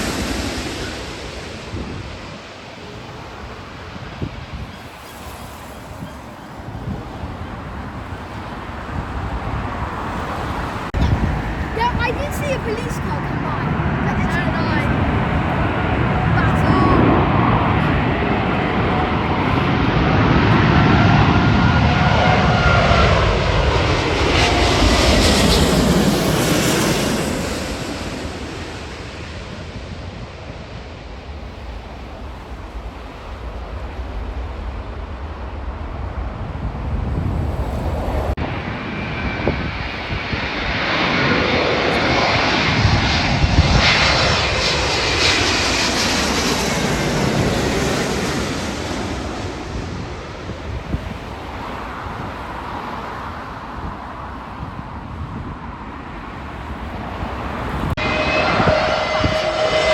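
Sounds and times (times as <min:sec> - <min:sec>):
jet airliner flying past: 0:00.0 - 0:59.9.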